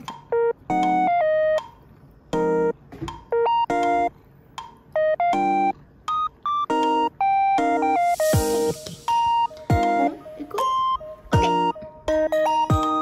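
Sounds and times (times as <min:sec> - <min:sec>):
bouncy stop-start melody: 0:00.1 - 0:13.0.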